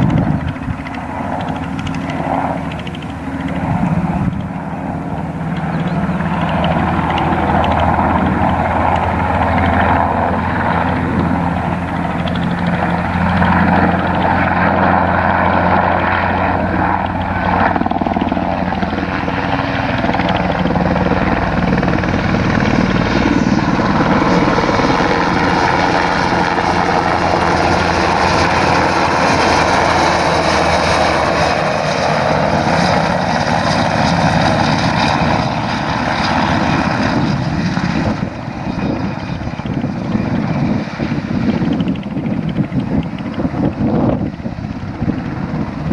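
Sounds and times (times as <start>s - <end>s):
helicopter rotor and turbine: 0.0s - 45.9s.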